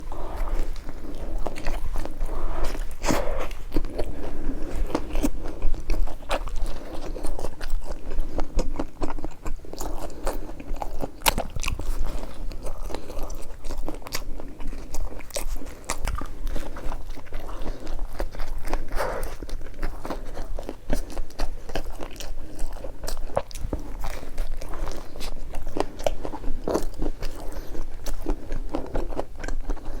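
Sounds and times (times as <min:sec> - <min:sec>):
person chewing crunchy bread: 0:00.0 - 0:30.0.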